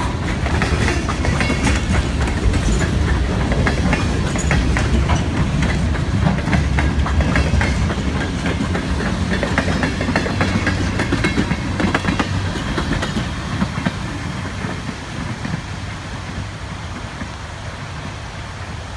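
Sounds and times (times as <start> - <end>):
wheels clicking over rail joints: 0.0 - 18.7
low train rumble: 0.0 - 18.9.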